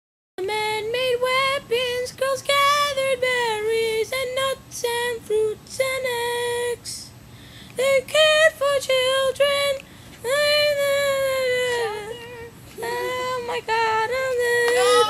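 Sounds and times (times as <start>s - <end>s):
young female voice singing: 0.4s - 7.1s, 7.8s - 15.0s.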